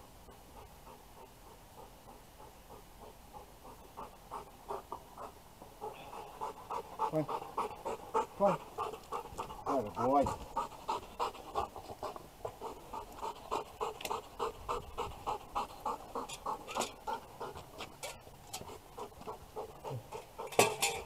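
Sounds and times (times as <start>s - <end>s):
dog panting: 0.2s - 21.0s.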